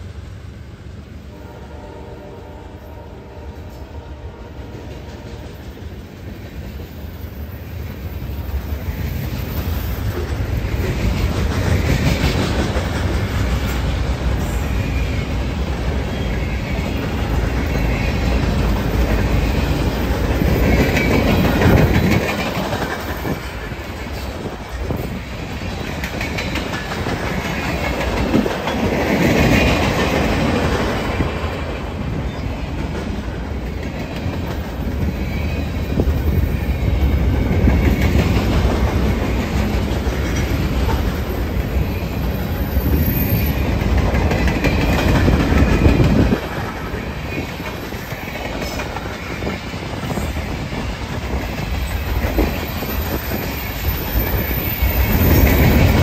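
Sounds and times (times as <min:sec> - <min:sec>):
train wheels clattering on rails: 0:03.7 - 0:56.0.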